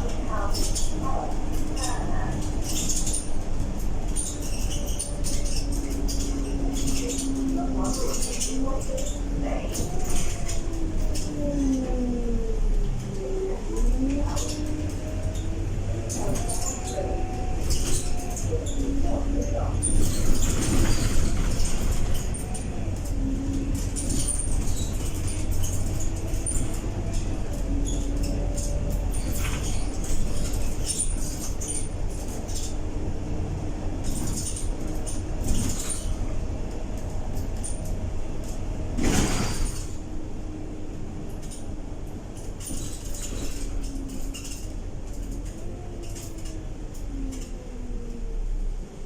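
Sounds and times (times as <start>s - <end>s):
bus diesel engine droning: 0.0s - 49.0s.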